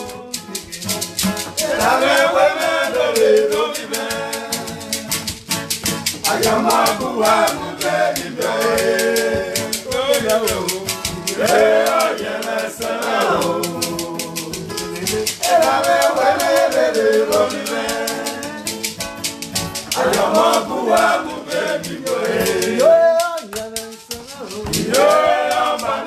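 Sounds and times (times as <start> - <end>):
strummed acoustic guitar: 0.0 - 26.0.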